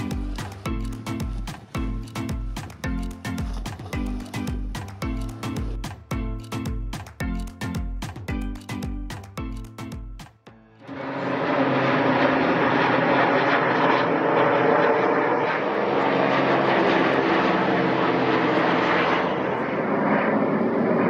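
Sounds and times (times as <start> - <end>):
aircraft engines droning overhead: 0.0 - 21.0.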